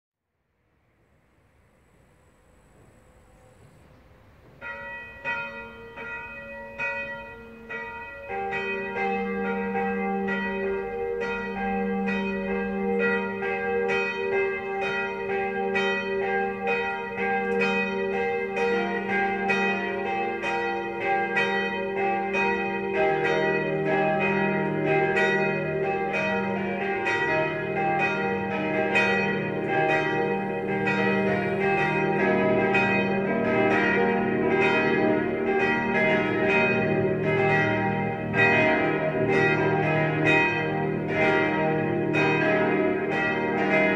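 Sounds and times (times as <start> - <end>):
church bells ringing: 2.4 - 43.9.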